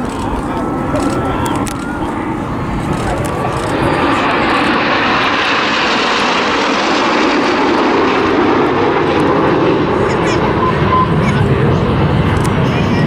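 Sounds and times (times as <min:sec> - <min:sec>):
jets roaring overhead: 0:00.0 - 0:13.0.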